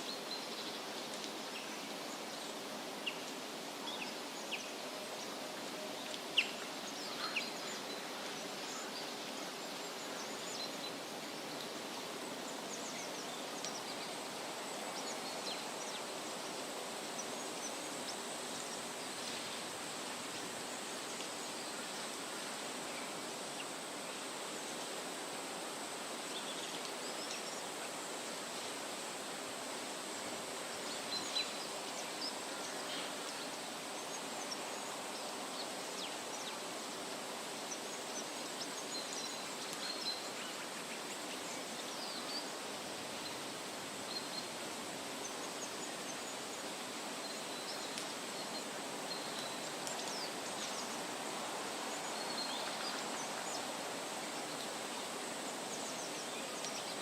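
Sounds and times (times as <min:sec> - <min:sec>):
wind rustling through trees: 0:00.0 - 0:57.0.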